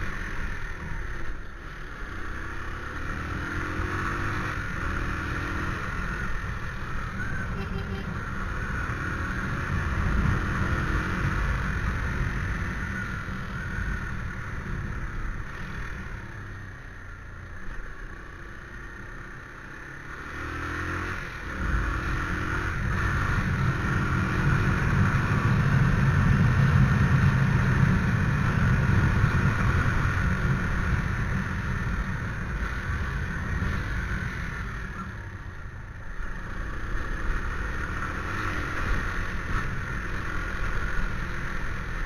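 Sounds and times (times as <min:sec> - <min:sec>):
motorcycle engine accelerating: 0:00.0 - 0:42.0
road and wind rumble: 0:00.0 - 0:42.0.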